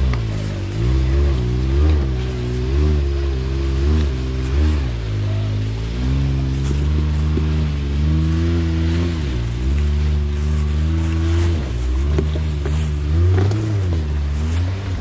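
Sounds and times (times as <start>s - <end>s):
utility vehicle engine revving: 0.0s - 15.0s.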